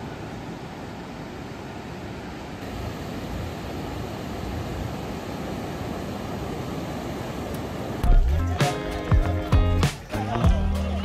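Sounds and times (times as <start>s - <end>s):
ocean surf on beach: 0.0s - 10.2s.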